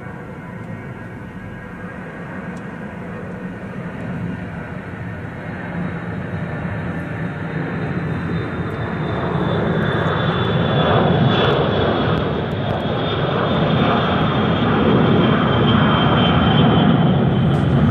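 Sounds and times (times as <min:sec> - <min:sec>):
jet engines rumbling and whining: 0:00.0 - 0:17.9.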